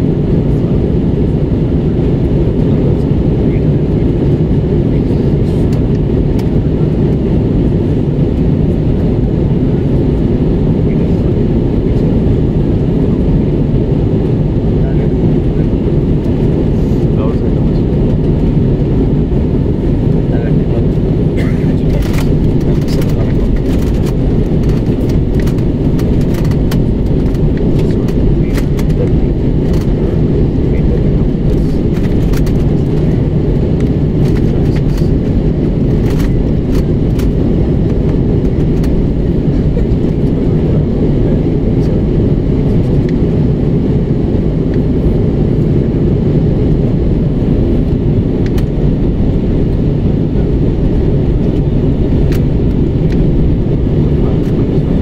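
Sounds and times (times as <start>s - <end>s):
jet engine roar in cabin: 0.0s - 55.0s.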